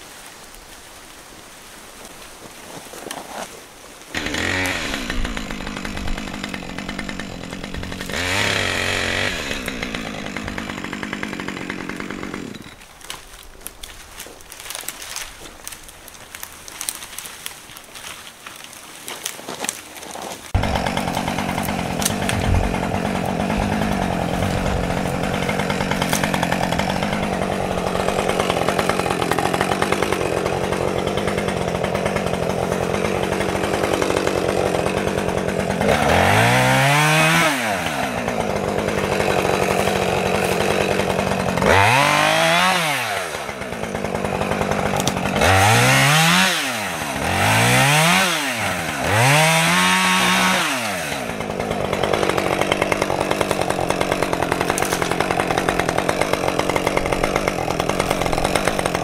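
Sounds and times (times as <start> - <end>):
chainsaw running and revving: 4.1 - 12.8, 19.6 - 59.0.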